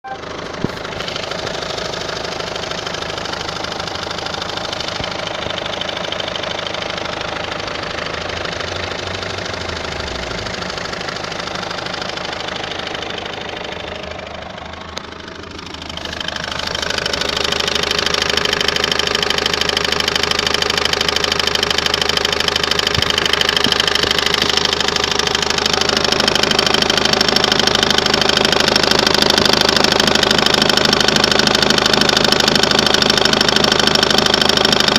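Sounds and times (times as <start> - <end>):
diesel engine running: 0.0 - 34.9
engine pulley noise: 0.1 - 34.9.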